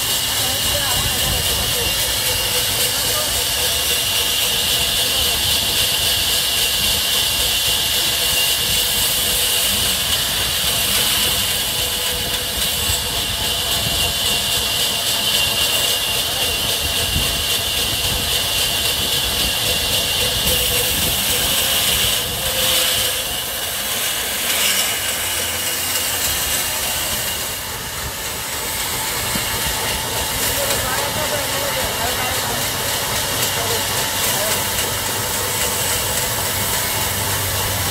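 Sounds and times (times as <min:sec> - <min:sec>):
band saw cutting log: 0:00.0 - 0:37.9.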